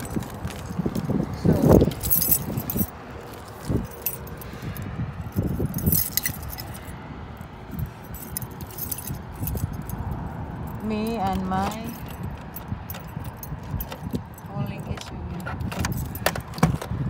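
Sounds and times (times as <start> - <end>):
metallic jangling and clinking: 0.0 - 16.9.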